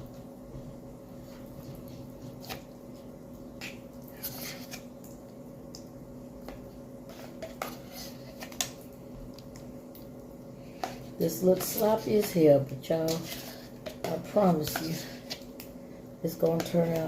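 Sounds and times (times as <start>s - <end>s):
spoon stirring thick mixture: 0.0s - 17.0s.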